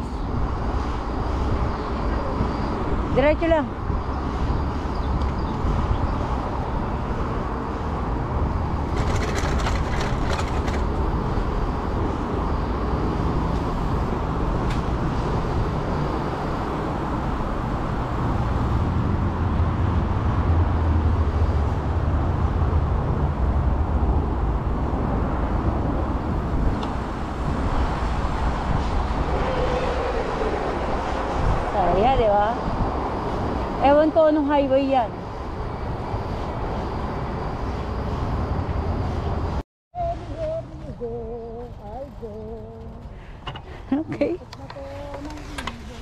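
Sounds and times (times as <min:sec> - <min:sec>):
wind and road noise: 0:00.0 - 0:46.0.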